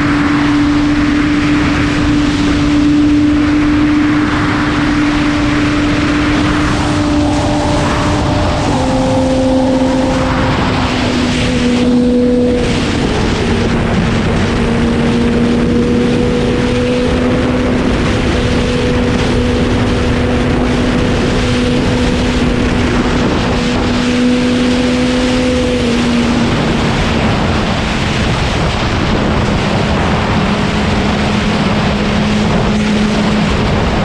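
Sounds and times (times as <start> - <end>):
motorcycle engine running hard: 0.0 - 34.0
wind rushing over microphone: 0.0 - 34.0.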